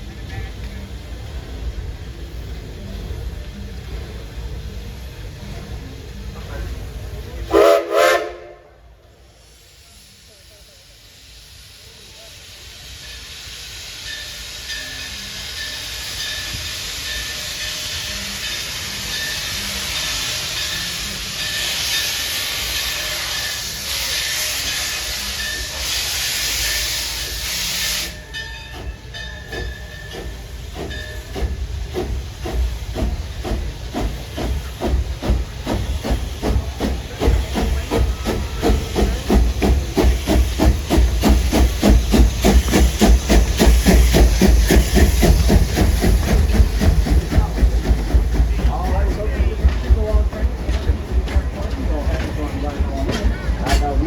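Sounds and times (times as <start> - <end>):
steam hissing from locomotive: 0.0 - 54.0
steam locomotive exhaust chuffing: 0.0 - 54.0.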